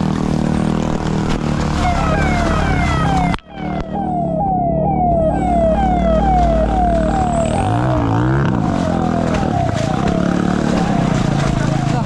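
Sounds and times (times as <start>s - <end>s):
low vehicle engine hum: 0.0s - 12.0s
electronic siren yelping: 1.8s - 12.0s.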